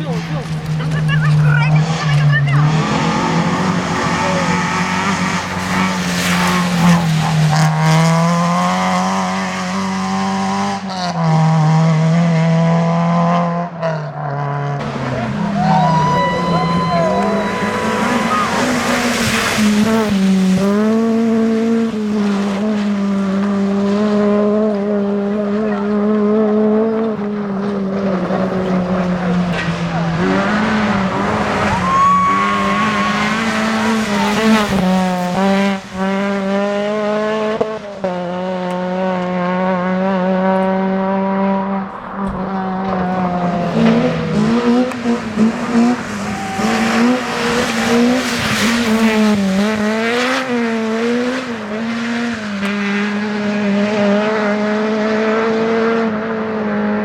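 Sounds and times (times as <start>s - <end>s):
rally car engine at high revs: 0.0s - 57.0s.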